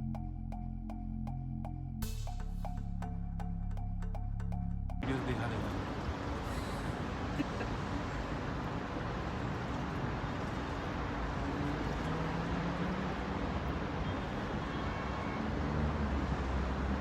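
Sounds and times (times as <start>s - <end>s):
low rumble of vehicle noise: 0.0s - 17.0s.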